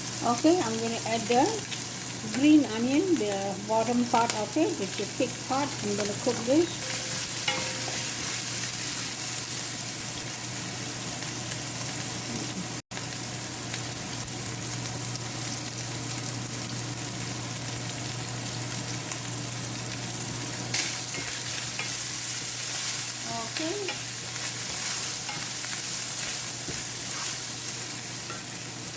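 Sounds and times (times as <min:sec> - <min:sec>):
food sizzling in hot oil: 0:00.0 - 0:28.9.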